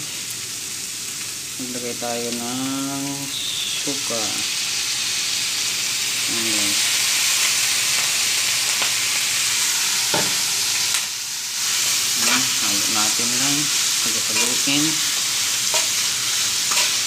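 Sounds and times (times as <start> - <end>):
bamboo shoots sizzling in oil: 0.0 - 17.0.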